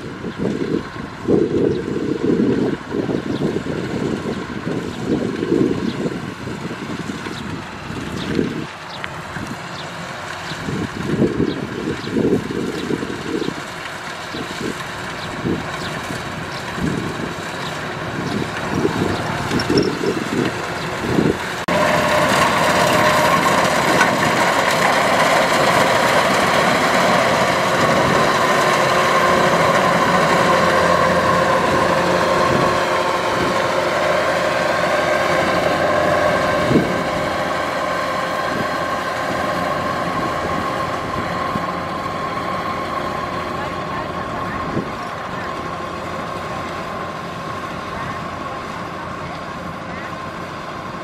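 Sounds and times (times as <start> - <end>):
wind buffeting microphone: 0.0 - 50.1
combine harvester engine drone: 0.0 - 51.0.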